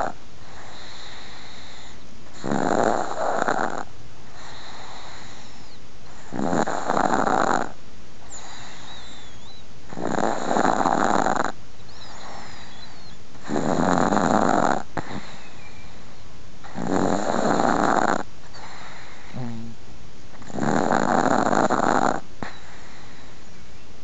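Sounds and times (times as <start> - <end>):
dog snoring: 0.0 - 15.9, 16.6 - 23.3.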